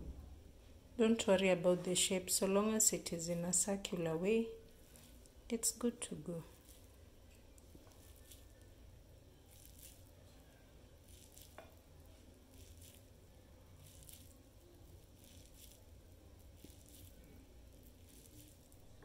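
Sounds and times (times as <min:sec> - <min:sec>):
soft squishes of sticky rice: 0:00.5 - 0:19.0.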